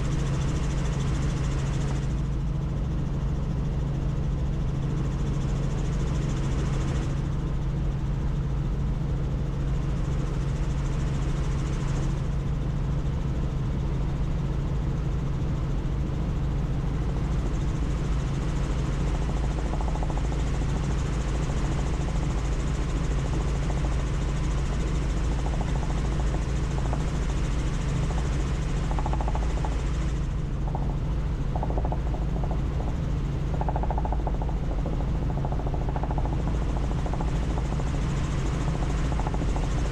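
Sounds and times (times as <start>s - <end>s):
constant low hum: 0.0s - 39.9s
helicopter rotor and engine noise: 0.0s - 39.9s.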